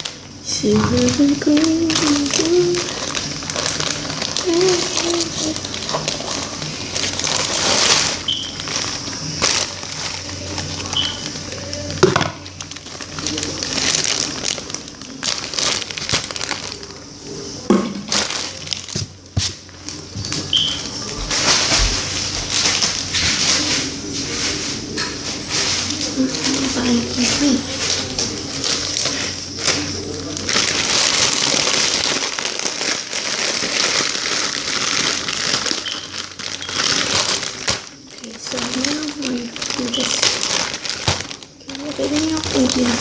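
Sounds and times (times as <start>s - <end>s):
crinkling and rustling: 0.0s - 43.0s.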